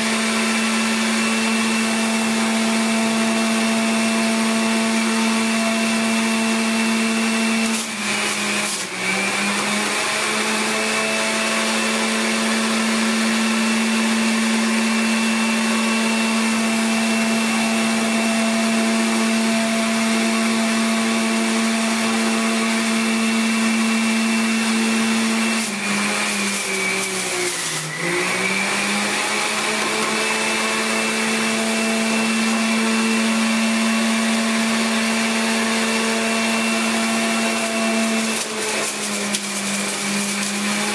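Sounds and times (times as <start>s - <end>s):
juicer motor humming and whining: 0.0s - 40.9s.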